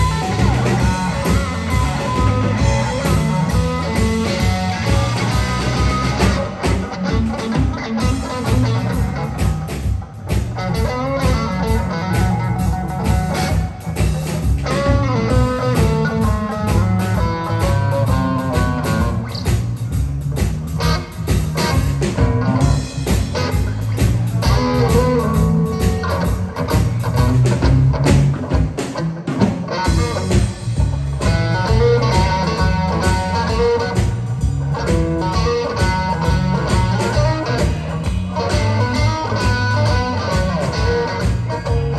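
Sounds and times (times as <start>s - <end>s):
electric guitar solo: 0.0s - 19.5s, 20.8s - 41.9s
drum kit with cymbals: 0.0s - 41.9s
electric bass guitar: 0.0s - 41.9s.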